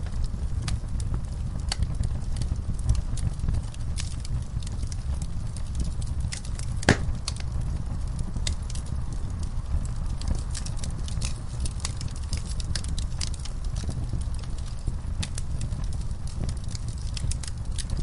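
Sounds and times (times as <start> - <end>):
fireplace fire crackling and popping: 0.0 - 18.0.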